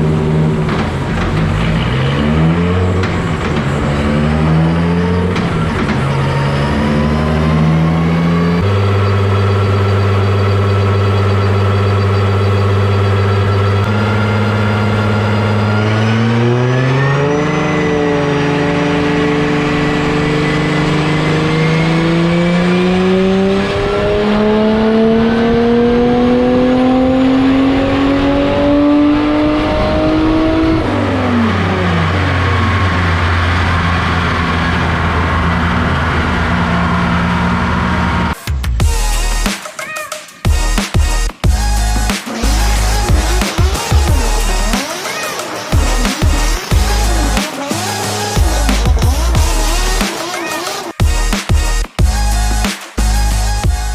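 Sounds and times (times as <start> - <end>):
car engine revving on dyno: 0.0 - 39.4, 41.1 - 53.9.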